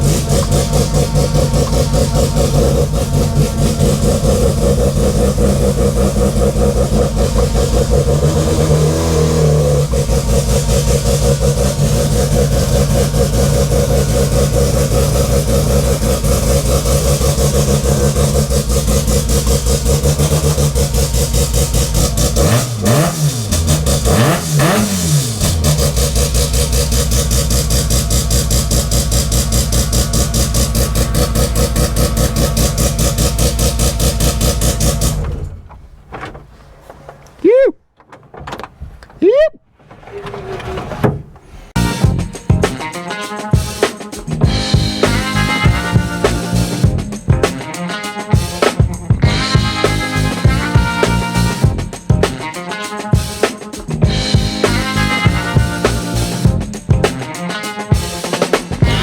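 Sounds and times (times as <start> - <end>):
car engine idling and revving: 0.0 - 37.4, 44.2 - 47.6, 49.2 - 52.4, 53.9 - 57.2, 58.7 - 59.0.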